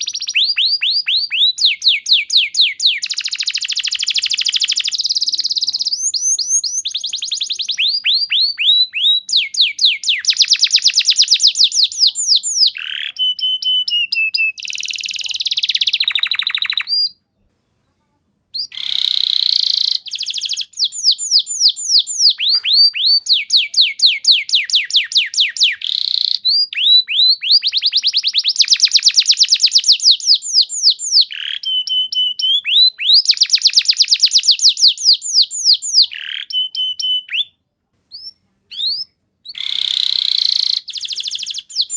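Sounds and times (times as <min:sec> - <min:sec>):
canary singing rapid trills: 0:00.0 - 0:17.2, 0:18.6 - 0:37.5, 0:38.1 - 0:41.9.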